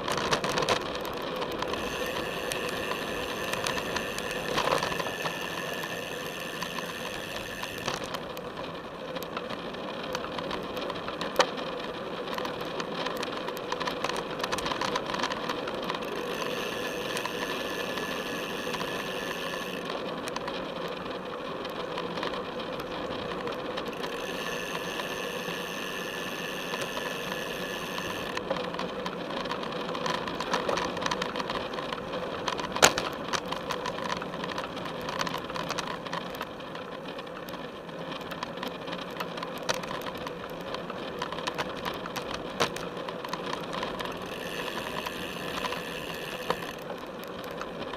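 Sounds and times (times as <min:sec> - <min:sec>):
bicycle drivetrain and tyres whirring: 0:00.0 - 0:47.9.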